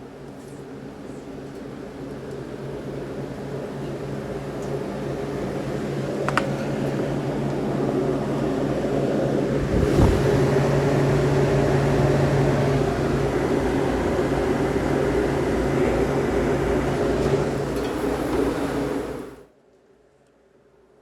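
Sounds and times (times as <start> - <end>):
refrigeration equipment humming: 2.6 - 19.5.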